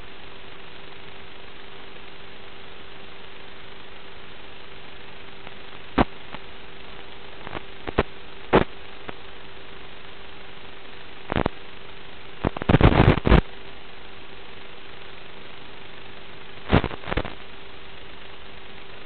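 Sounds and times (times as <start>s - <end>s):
constant hum: 0.0s - 19.0s
radio static hiss: 0.0s - 19.0s
static crackles: 0.0s - 19.0s.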